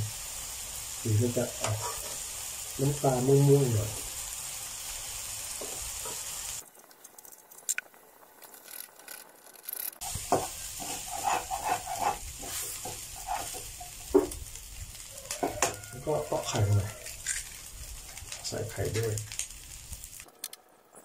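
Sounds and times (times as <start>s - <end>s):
rice and chicken sizzling: 0.0s - 9.4s, 10.0s - 20.4s.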